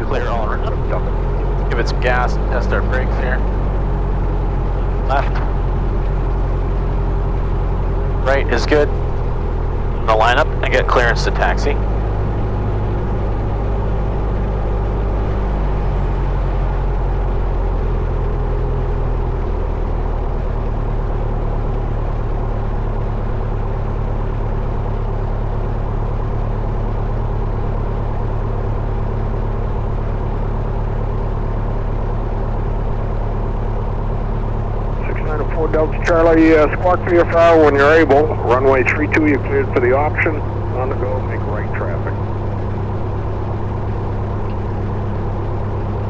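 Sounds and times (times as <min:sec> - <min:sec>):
small plane engine in cabin: 0:00.0 - 0:46.0.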